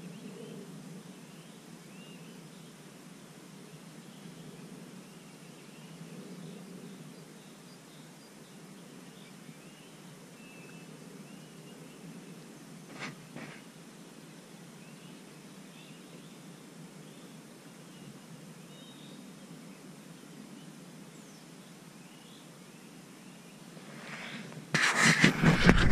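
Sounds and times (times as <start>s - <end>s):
faint bird chirps: 0.0s - 2.9s, 3.6s - 24.5s.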